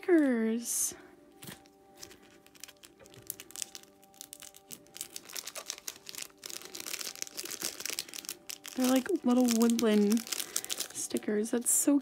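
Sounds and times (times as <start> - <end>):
crinkly packaging rustling: 0.0 - 11.8
faint background music: 0.0 - 12.0.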